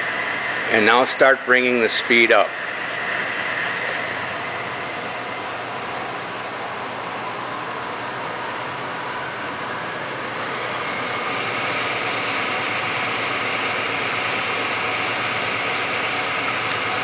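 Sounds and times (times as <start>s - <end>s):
lathe whine: 0.0s - 17.0s.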